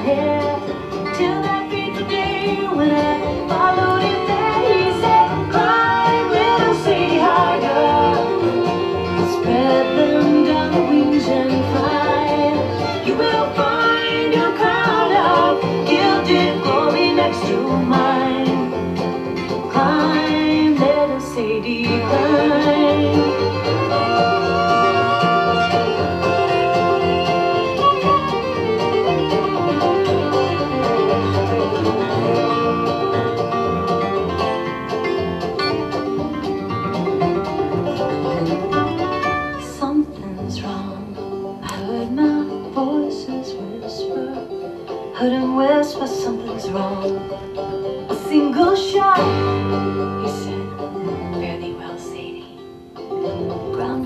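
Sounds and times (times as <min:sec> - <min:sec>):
bluegrass music on string instruments: 0:00.0 - 0:54.0.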